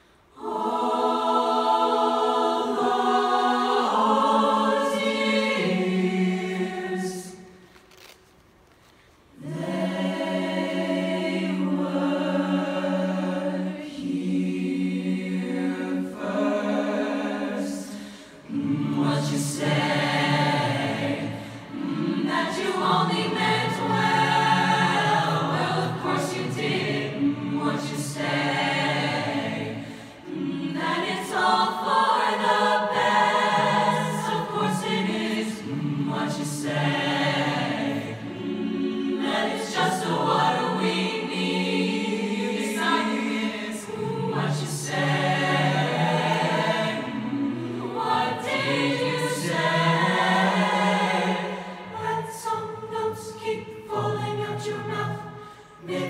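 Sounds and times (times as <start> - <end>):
a cappella group singing: 0.0 - 7.6, 9.3 - 56.0.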